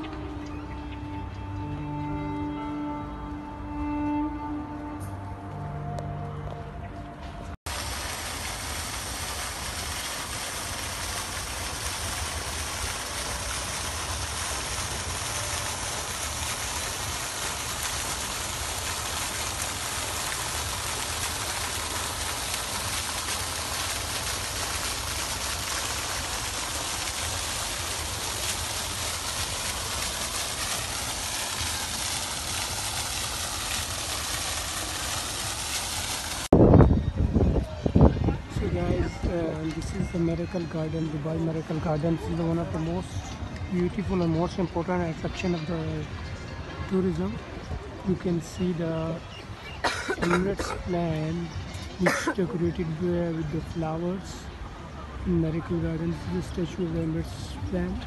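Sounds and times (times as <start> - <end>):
fountain water splashing: 0.0 - 4.9, 7.7 - 58.0.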